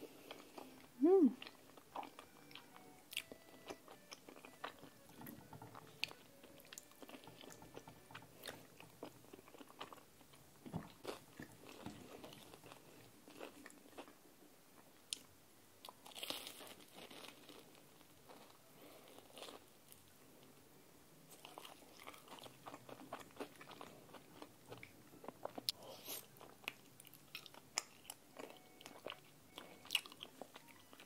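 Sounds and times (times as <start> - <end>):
chewing and wet mouth sounds: 0.0 - 20.0, 21.3 - 31.0.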